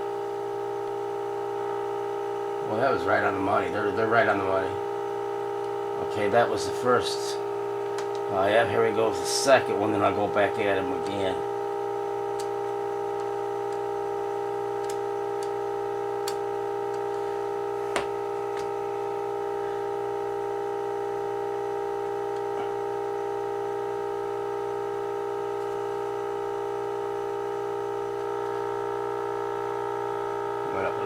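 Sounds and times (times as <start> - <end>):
steady test tone from radio speaker: 0.3 - 31.0.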